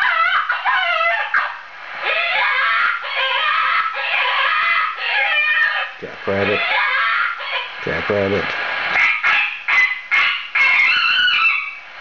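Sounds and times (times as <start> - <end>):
shrill wavering animal screams: 0.0 - 7.8, 9.0 - 11.8.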